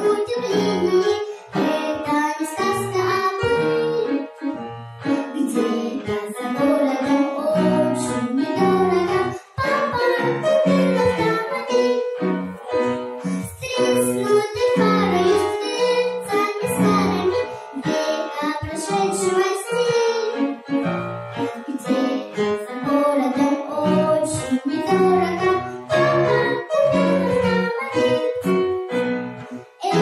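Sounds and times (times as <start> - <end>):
girl singing: 0.0 - 4.3, 5.0 - 20.6, 21.4 - 28.7, 29.7 - 30.0
piano accompaniment: 0.0 - 30.0.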